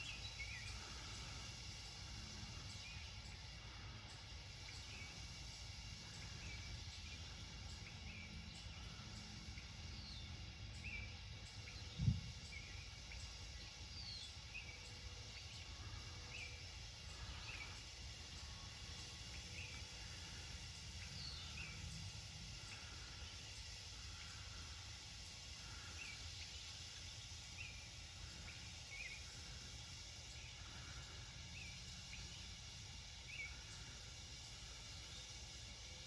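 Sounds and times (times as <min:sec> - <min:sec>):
birds chirping: 0:00.0 - 0:35.6.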